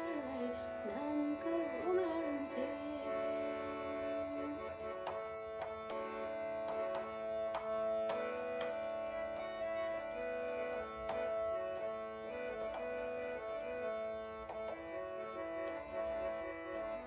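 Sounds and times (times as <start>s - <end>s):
held chords with stepping melody: 3.2s - 17.0s.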